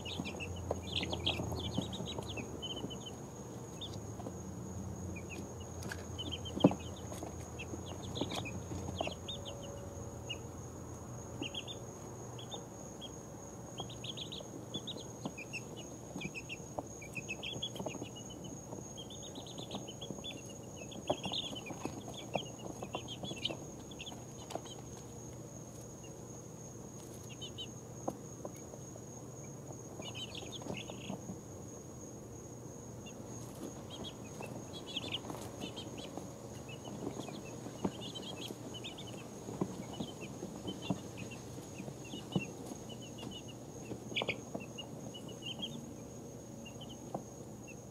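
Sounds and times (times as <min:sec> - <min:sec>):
chicks peeping softly: 0:00.0 - 0:47.9.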